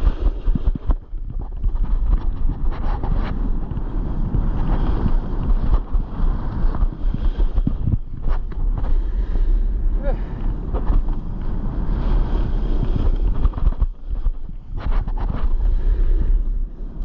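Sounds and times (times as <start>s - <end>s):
snowboard scraping over snow: 0.0s - 17.0s
wind buffeting microphone: 0.0s - 17.0s.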